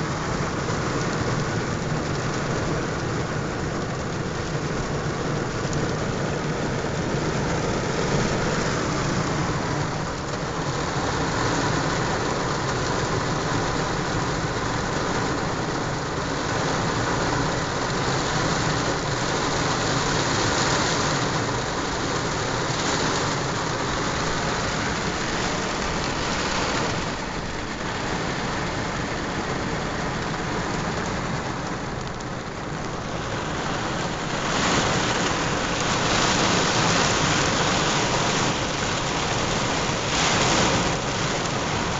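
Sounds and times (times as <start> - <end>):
heavy rain on a truck: 0.0 - 41.9.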